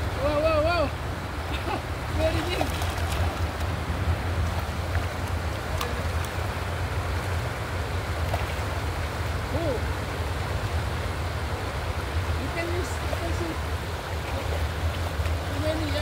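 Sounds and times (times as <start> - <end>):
river water over rocks: 0.0 - 16.0.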